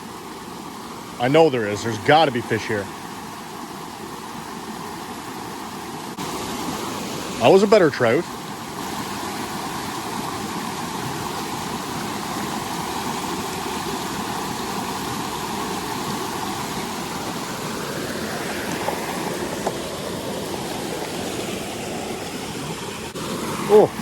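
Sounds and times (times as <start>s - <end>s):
creek water over small falls: 0.0s - 24.0s.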